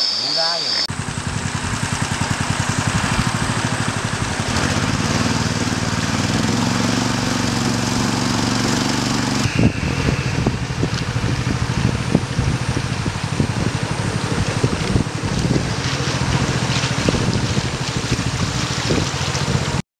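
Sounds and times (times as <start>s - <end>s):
boat engine running: 0.0s - 19.8s.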